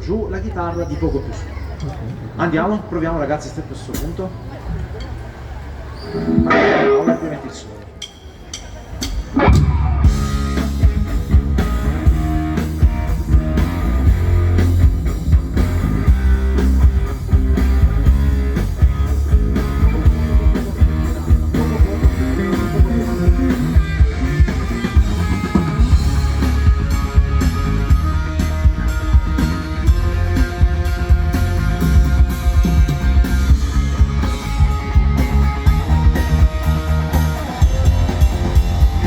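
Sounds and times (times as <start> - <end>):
live rock band playing: 5.6 - 39.0.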